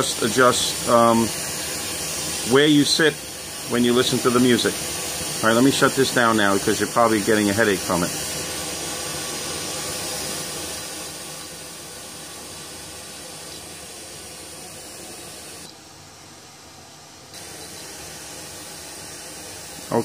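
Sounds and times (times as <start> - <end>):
pink noise hiss through speakers: 0.0 - 20.0.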